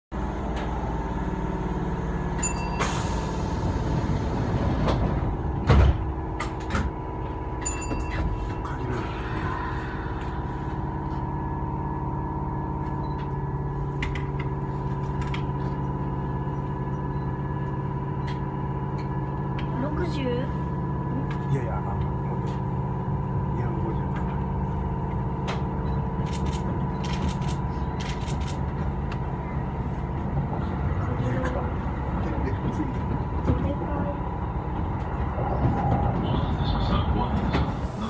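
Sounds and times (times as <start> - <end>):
electric train humming: 0.2 - 38.0.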